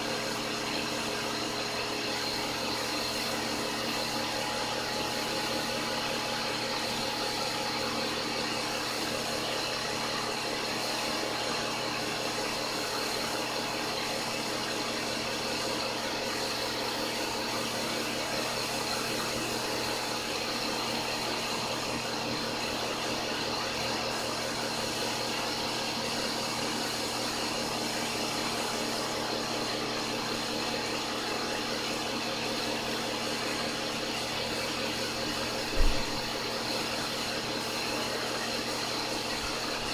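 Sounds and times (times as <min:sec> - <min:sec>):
pump motor humming: 0:00.0 - 0:39.9.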